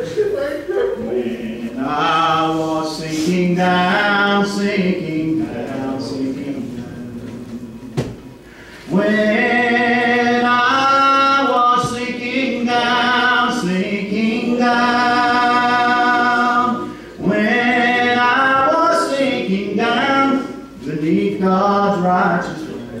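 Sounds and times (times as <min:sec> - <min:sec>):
man singing a hymn: 0:01.1 - 0:08.2, 0:08.8 - 0:23.0.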